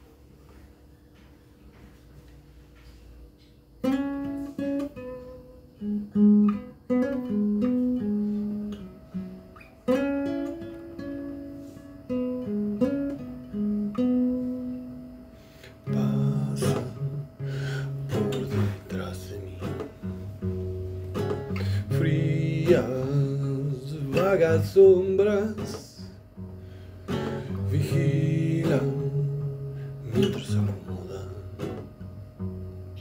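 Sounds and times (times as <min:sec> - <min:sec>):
fingerstyle acoustic guitar: 0:00.0 - 0:33.0
guitar strummed chords: 0:03.8 - 0:33.0.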